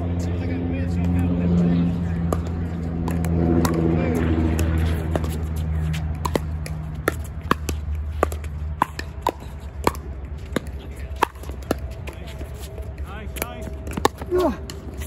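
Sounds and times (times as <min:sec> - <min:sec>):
ball bouncing: 0:02.2 - 0:15.0.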